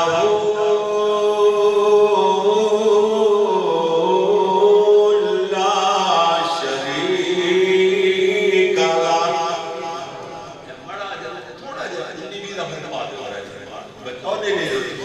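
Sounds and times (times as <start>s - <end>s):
man chanting religious recitation: 0.0s - 15.0s.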